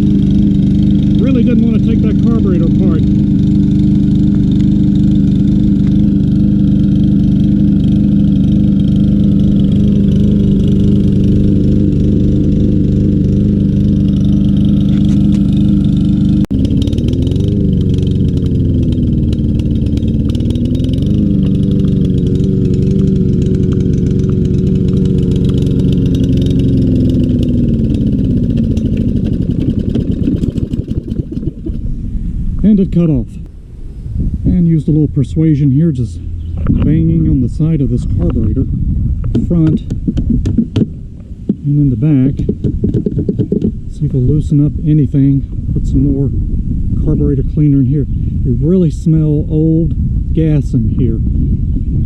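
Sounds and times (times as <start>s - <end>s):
mower engine running and surging: 0.0s - 52.0s.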